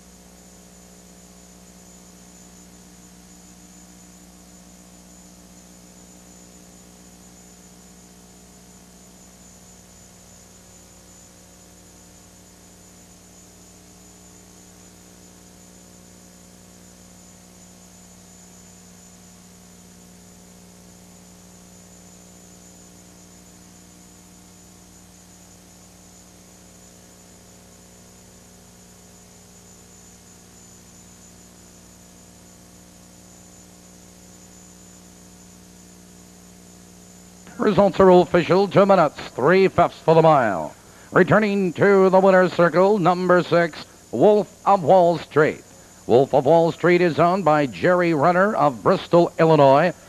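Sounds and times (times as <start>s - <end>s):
electrical hum with hiss: 0.0s - 50.0s
faint high whine: 0.0s - 50.0s.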